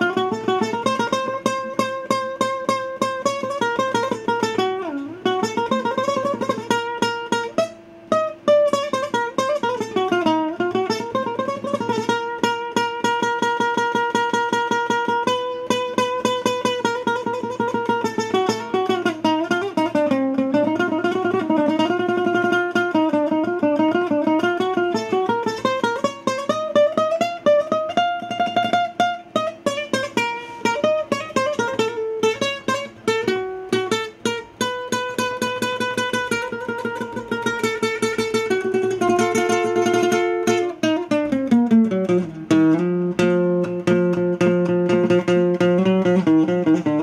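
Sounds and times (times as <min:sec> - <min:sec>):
solo classical guitar: 0:00.0 - 0:47.0.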